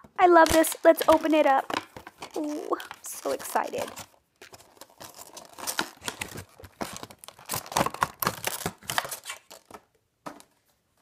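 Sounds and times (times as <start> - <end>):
plastic packaging crinkling: 0.1 - 9.9.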